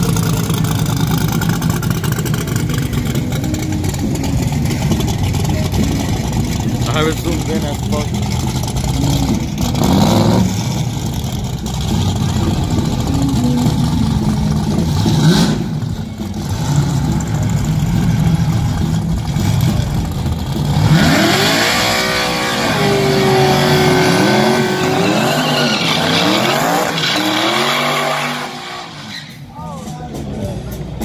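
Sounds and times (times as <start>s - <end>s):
tyres spinning: 0.0s - 29.4s
truck engine revving: 0.0s - 31.0s.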